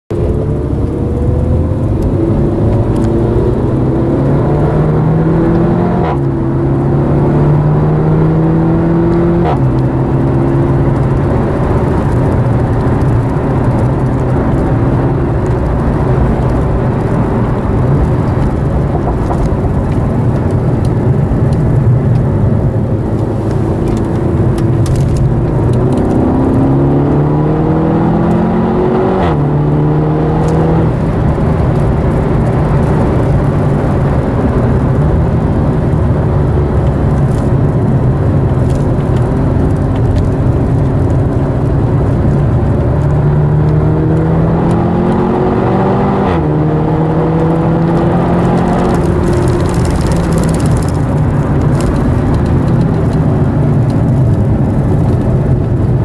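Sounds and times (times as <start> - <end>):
car engine revving: 0.1 - 56.0
tyre and road noise: 0.1 - 56.0.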